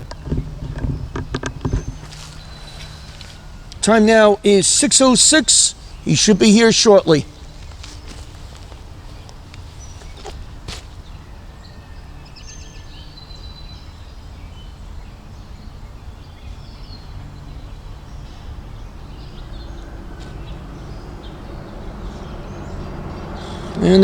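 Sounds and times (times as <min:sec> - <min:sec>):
low outdoor rumble: 0:00.0 - 0:24.0
small birds chirping: 0:00.0 - 0:24.0.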